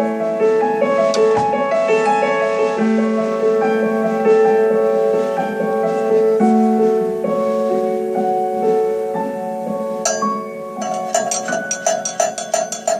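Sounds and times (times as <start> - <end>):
piano chords: 0.0 - 12.9.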